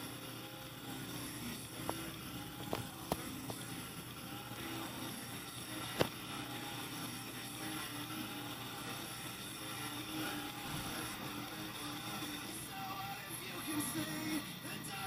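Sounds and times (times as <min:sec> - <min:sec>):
faint music: 0:00.0 - 0:15.0
hiss and hum: 0:00.0 - 0:15.0.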